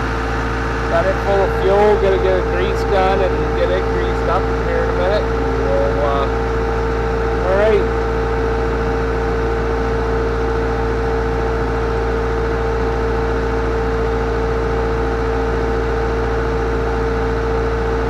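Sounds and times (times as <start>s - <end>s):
constant whine: 0.0s - 18.0s
tractor diesel engine idling: 0.0s - 18.0s.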